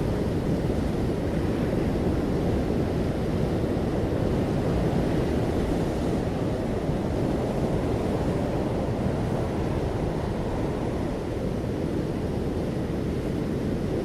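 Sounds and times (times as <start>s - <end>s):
ocean surf washing ashore: 0.0s - 14.0s.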